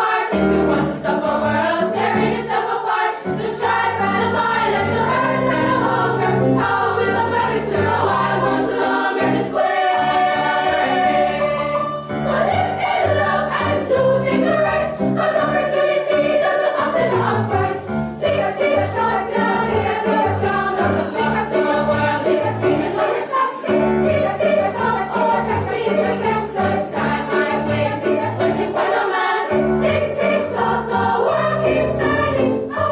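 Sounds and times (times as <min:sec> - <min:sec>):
choir singing: 0:00.0 - 0:32.9.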